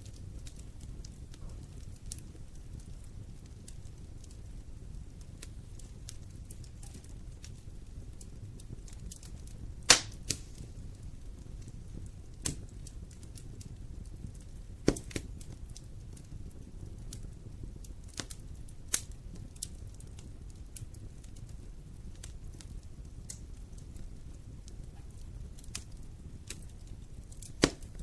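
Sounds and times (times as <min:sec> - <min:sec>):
fire crackling and popping: 0:00.0 - 0:28.0
fire rumbling: 0:00.0 - 0:28.0.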